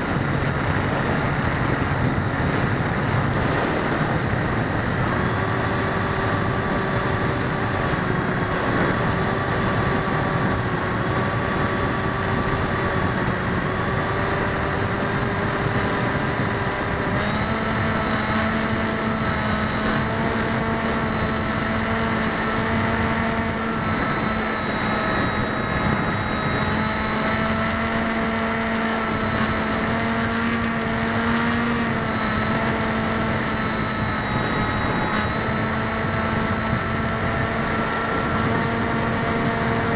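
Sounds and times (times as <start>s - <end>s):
electric propeller whine: 0.0s - 39.9s
wind rushing on microphone: 0.0s - 39.9s.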